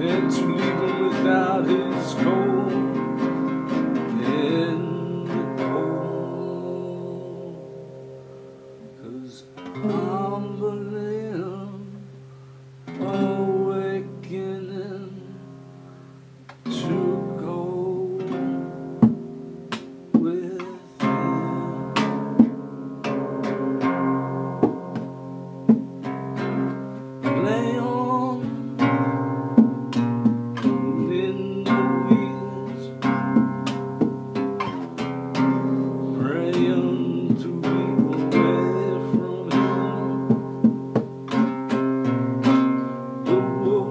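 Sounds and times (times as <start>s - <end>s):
man singing: 0.0s - 8.2s, 8.8s - 12.2s, 12.9s - 15.6s, 16.6s - 19.1s, 20.0s - 23.9s, 26.4s - 43.9s
acoustic guitar: 0.0s - 43.9s.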